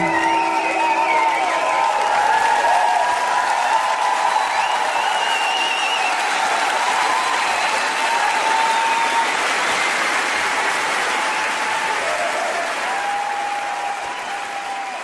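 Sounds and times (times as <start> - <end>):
crowd applauding: 0.0 - 15.0
crowd cheering: 0.0 - 15.0.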